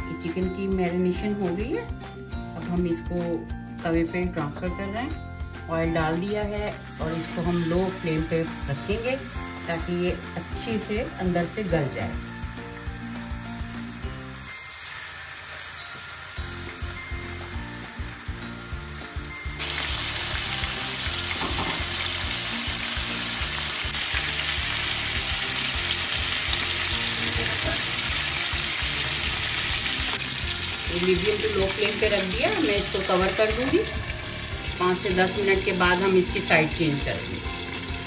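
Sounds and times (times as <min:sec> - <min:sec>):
chicken sizzling in hot oil: 0:05.8 - 0:38.0.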